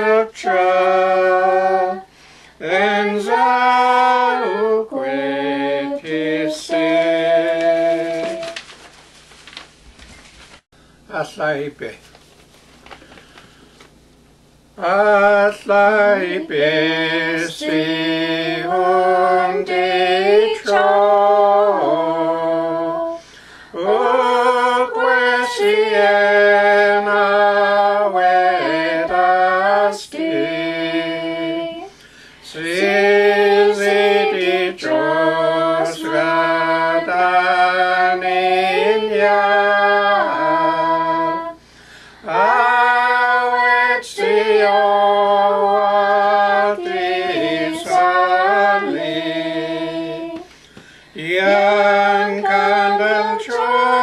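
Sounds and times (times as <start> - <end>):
group singing a hymn unaccompanied: 0.0 - 8.6, 14.8 - 54.0.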